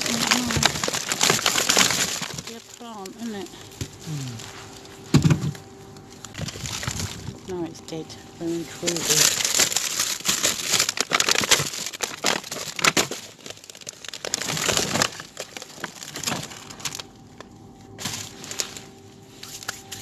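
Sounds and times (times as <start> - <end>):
plastic packaging crinkling and clattering: 0.0 - 20.0.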